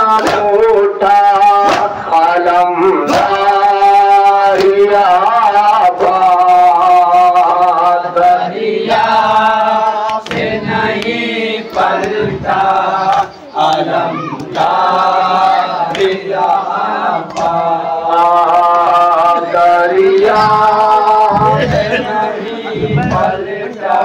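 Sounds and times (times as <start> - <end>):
men and boys chanting: 0.0 - 24.0
rhythmic chest-beating: 0.0 - 24.0.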